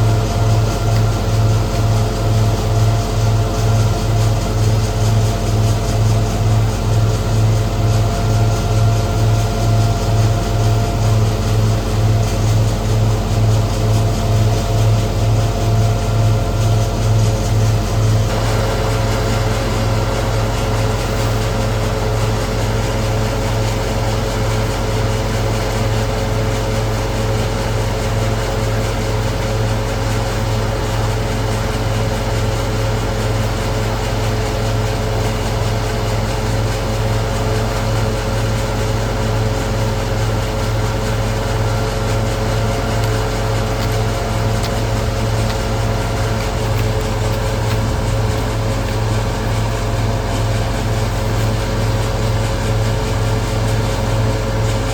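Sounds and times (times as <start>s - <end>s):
threshing machine engine humming: 0.0s - 54.9s.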